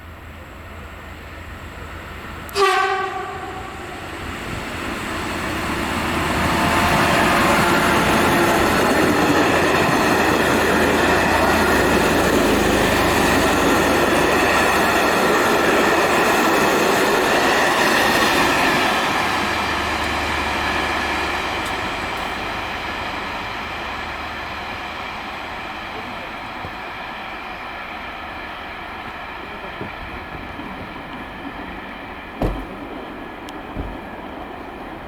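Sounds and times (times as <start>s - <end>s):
passenger train passing at speed: 0.0s - 35.0s
wheel and rail noise: 0.0s - 35.0s.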